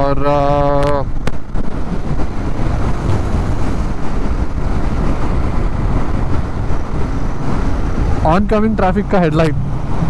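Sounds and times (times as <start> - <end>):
wind rushing on microphone: 0.0 - 10.0.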